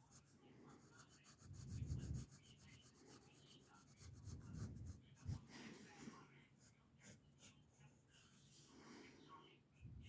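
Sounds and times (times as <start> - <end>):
pencil shading on paper: 0.0 - 6.0, 6.6 - 8.7.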